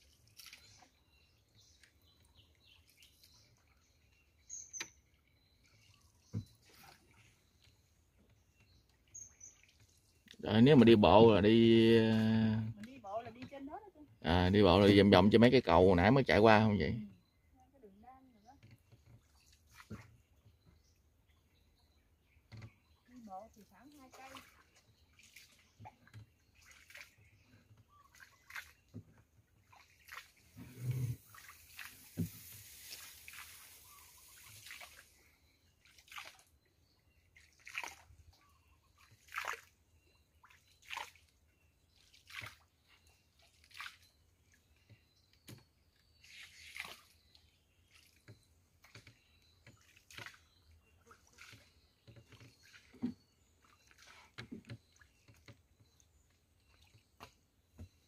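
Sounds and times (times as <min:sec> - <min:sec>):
paddle splashing in water: 0:00.0 - 0:10.7, 0:18.5 - 0:21.4, 0:22.0 - 0:58.0.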